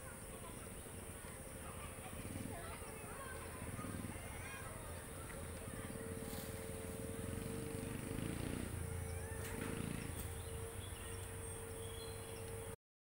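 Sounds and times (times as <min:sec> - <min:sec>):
constant humming tone: 0:00.0 - 0:12.8.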